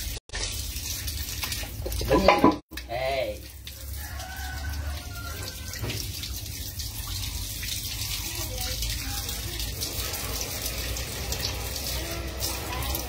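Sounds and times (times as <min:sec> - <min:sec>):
tap water splashing on concrete: 0:00.3 - 0:13.0.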